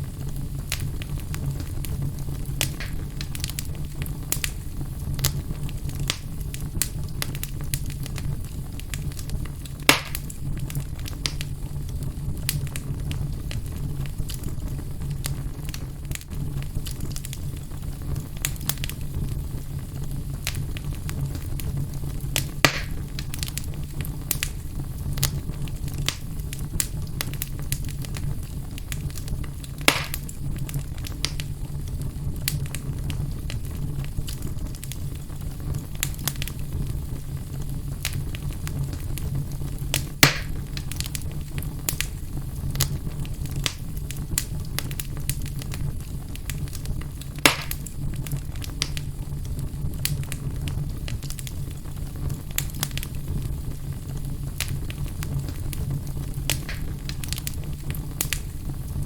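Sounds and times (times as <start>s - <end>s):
fire crackling: 0.0s - 59.0s
loud fire pops: 0.0s - 59.0s
low rumble of flames: 0.0s - 59.0s.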